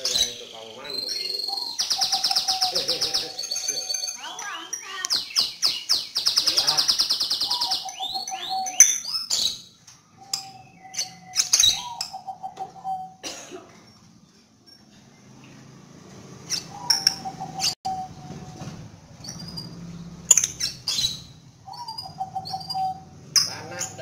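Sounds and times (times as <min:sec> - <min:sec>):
lower rattling bird trills: 0:00.0 - 0:13.2, 0:16.5 - 0:23.9
high bird trill: 0:00.0 - 0:13.3, 0:16.4 - 0:24.0
songbirds chirping and singing: 0:00.0 - 0:13.3, 0:15.0 - 0:24.0.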